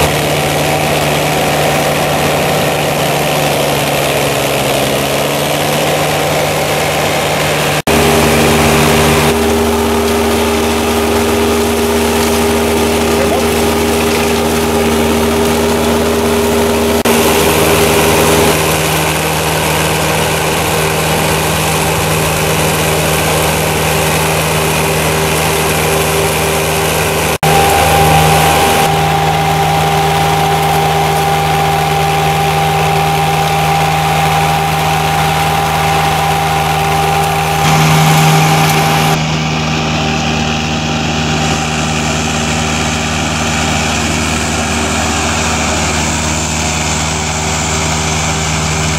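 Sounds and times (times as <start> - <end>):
flail mulcher droning: 0.0 - 48.9.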